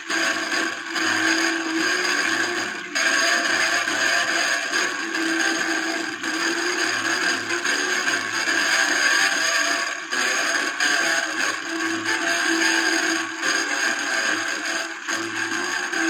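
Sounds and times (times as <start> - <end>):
record hiss and scratch: 0.0 - 16.0
thin music from a record: 0.0 - 16.0.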